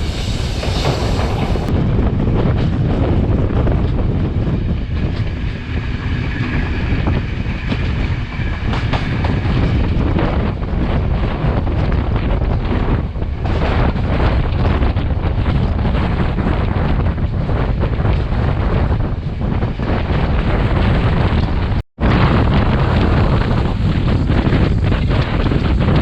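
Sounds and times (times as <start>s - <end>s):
train wheels rumbling on rail: 0.0s - 26.0s
wind buffeting microphone: 0.0s - 26.0s.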